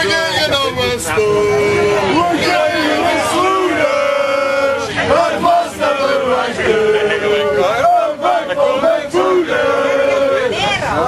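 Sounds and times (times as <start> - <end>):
crowd chanting in unison: 0.0 - 11.0.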